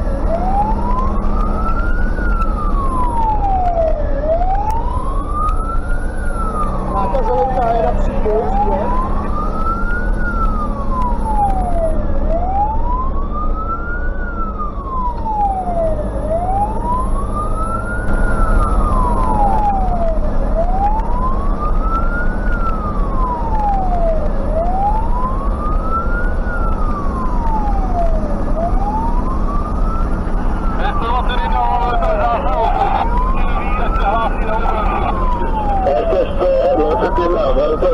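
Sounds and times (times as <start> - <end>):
fire engine siren wailing: 0.0 - 37.9
road noise: 0.0 - 37.9
truck engine drone: 0.0 - 37.9.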